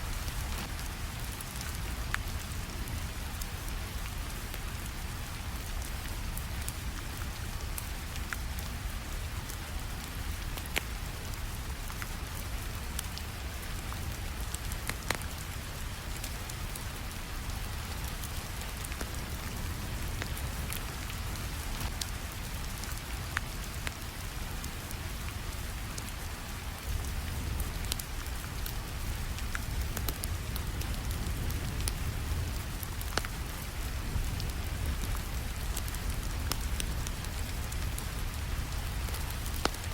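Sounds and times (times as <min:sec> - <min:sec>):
steady rainfall: 0:00.0 - 0:39.9
wood fire crackling: 0:00.0 - 0:39.9.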